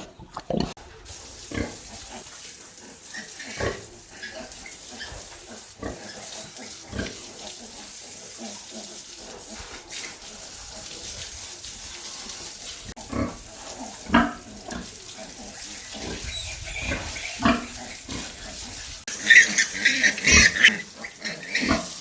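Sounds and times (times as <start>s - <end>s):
running water hiss: 0.8s - 22.0s
pigs grunting: 1.5s - 10.9s, 13.0s - 22.0s.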